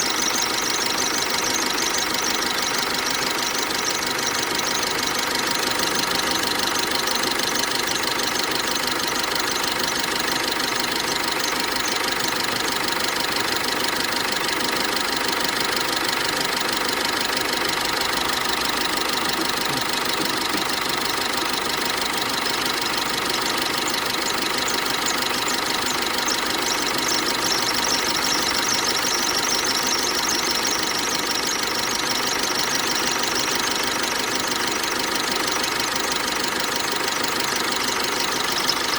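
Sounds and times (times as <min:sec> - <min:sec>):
diesel engine idling: 0:00.0 - 0:38.9
high-pitched drive belt whistle: 0:00.0 - 0:38.9.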